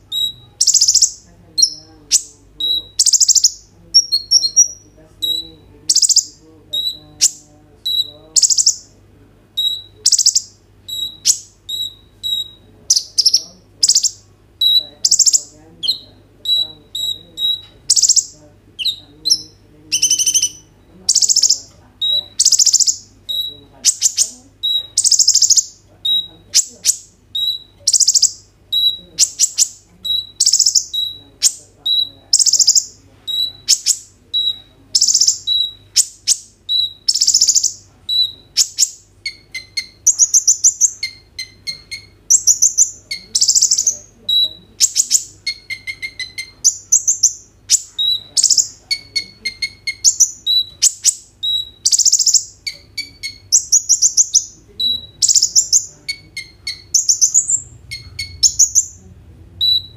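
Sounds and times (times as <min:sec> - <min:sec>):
bird singing high sharp phrases: 0:00.0 - 0:09.0, 0:09.6 - 0:59.0, 0:59.6 - 0:59.9.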